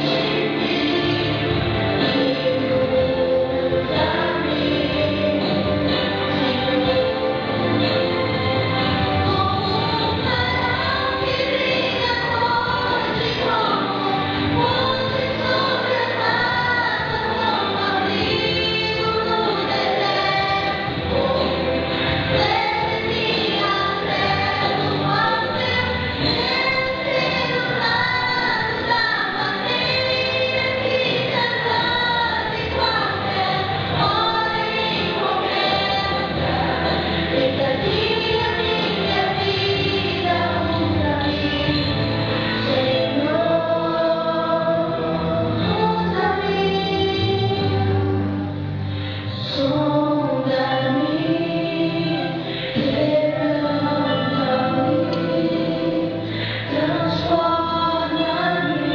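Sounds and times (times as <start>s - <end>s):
musical accompaniment: 0.0s - 58.9s
two women singing a duet: 0.0s - 58.9s.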